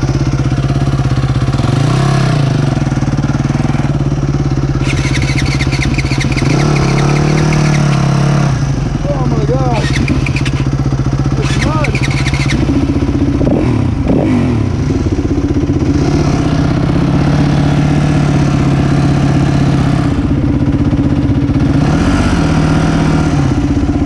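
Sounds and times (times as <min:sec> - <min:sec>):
dirt bike engines idling: 0:00.0 - 0:24.0.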